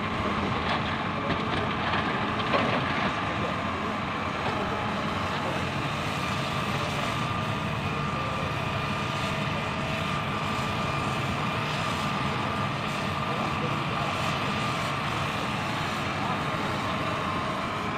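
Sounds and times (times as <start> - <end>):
excavator diesel engine working: 0.0 - 17.9.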